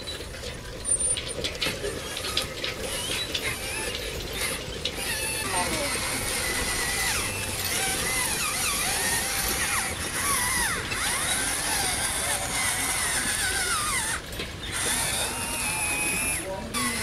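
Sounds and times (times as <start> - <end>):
motor whirring: 0.0 - 17.0.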